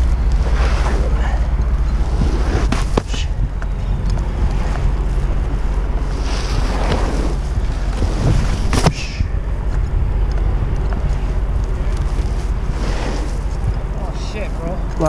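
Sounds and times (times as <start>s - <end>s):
steady low rumble: 0.0s - 15.0s
wind buffeting microphone: 0.0s - 15.0s.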